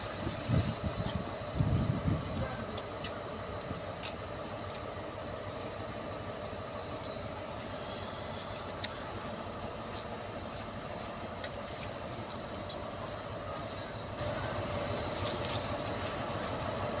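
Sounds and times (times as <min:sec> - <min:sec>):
diesel train engine idling: 0:00.0 - 0:17.0.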